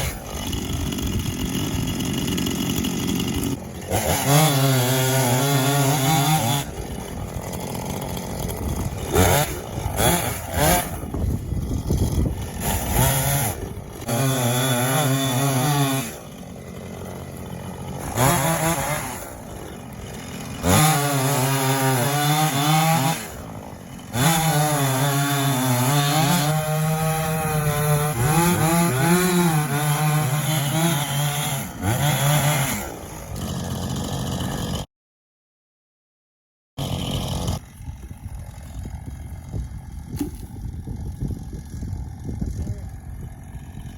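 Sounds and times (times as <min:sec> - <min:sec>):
chainsaw cutting and revving: 0:00.0 - 0:34.9, 0:36.8 - 0:43.9.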